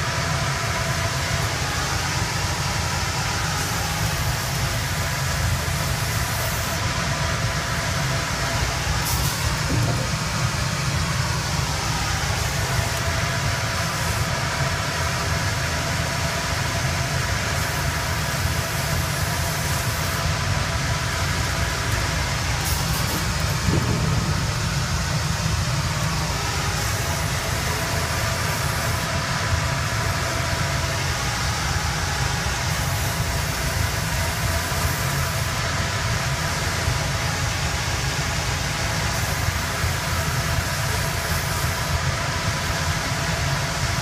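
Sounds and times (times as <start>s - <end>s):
loud steady rumble with hiss: 0.0s - 44.0s.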